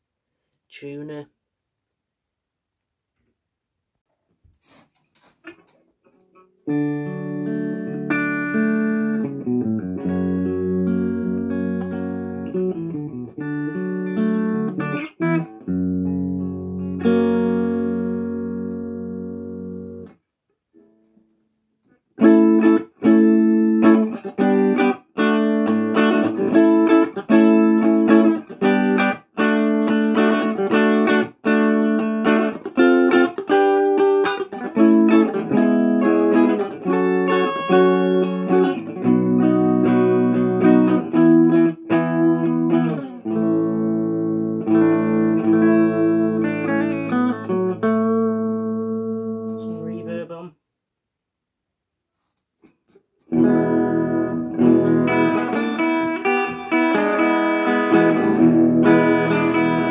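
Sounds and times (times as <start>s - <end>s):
electric guitar chords: 6.6s - 20.2s, 22.2s - 50.4s, 53.3s - 59.9s.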